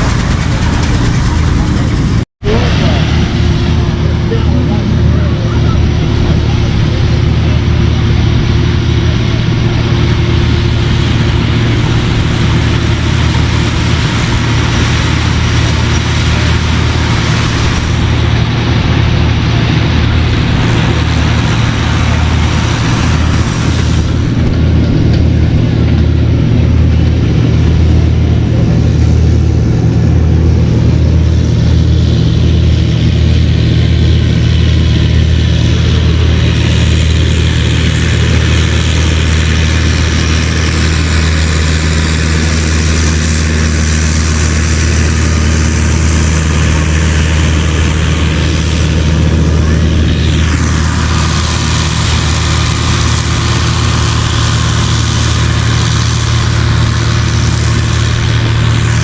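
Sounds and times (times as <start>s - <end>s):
engine running with low hum: 0.0s - 59.0s.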